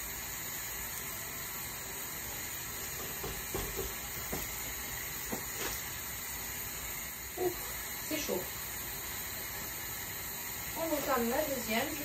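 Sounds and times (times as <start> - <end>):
dough hissing on hot griddle: 0.0 - 12.0.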